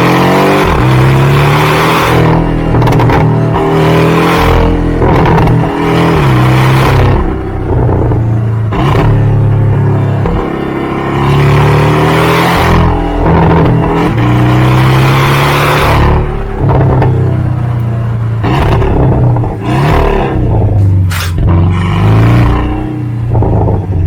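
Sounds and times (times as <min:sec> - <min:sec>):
car engine accelerating through gears: 0:00.0 - 0:24.0.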